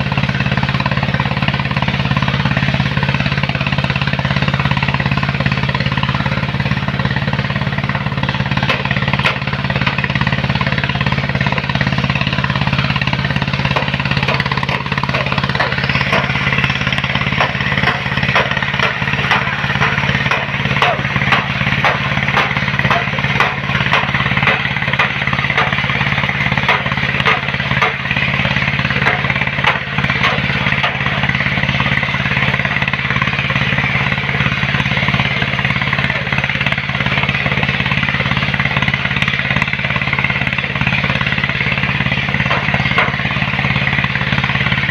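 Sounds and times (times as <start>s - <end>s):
continuous rattling clatter: 0.0s - 44.9s
heavy machine engine running: 0.0s - 44.9s.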